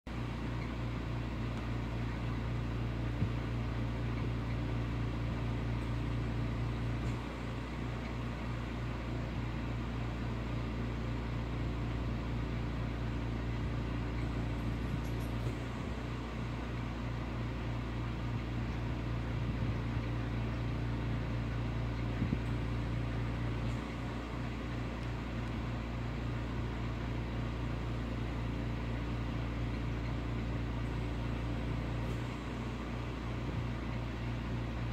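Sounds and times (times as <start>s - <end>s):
steady low hum: 0.1s - 34.9s.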